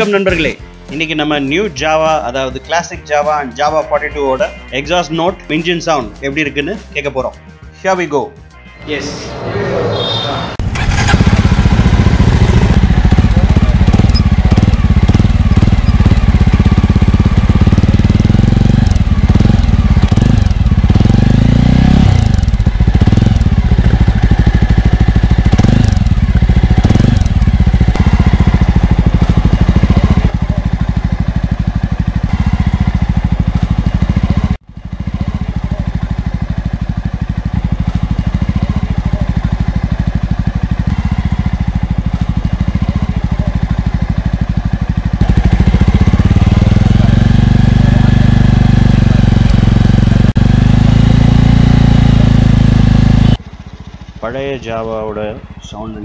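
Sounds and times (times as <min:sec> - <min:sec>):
motorcycle engine revving and idling: 0:10.0 - 0:56.0.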